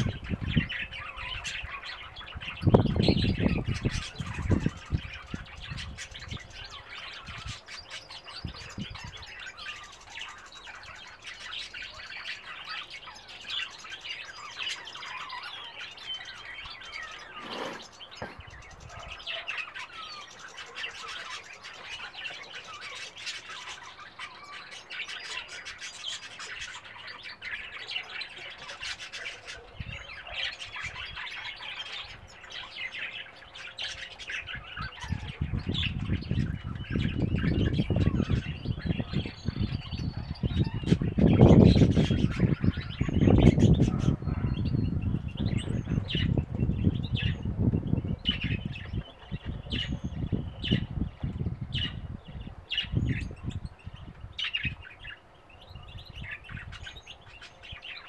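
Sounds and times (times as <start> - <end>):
finches twittering: 0.0 - 58.0.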